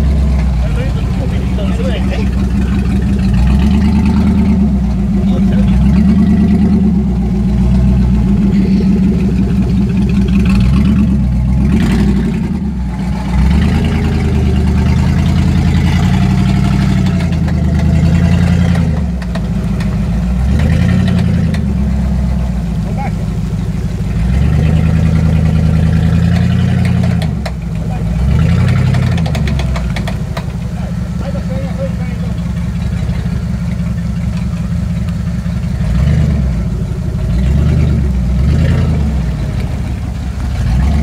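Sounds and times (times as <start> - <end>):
engine running at low revs: 0.0 - 41.0.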